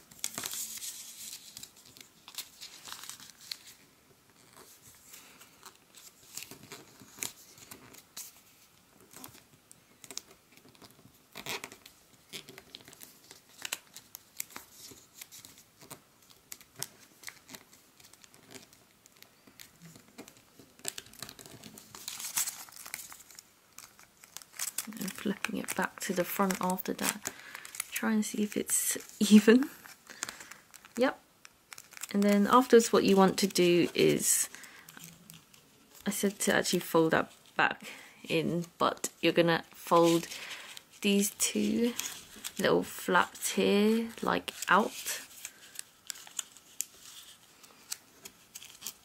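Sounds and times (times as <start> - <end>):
paper rustling and crinkling: 0.0 - 31.1, 31.7 - 36.4, 39.7 - 49.0.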